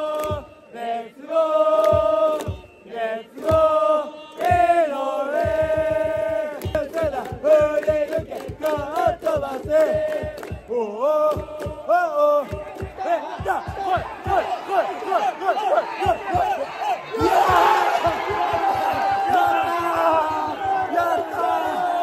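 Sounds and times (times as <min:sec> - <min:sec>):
drumbeats: 0:00.0 - 0:00.6, 0:01.5 - 0:02.8, 0:03.4 - 0:22.0
crowd chanting: 0:00.0 - 0:22.0.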